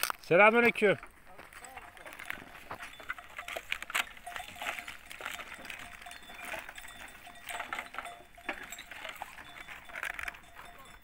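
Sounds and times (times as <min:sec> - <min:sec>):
goat and sheep bells clinking: 0:00.4 - 0:11.0.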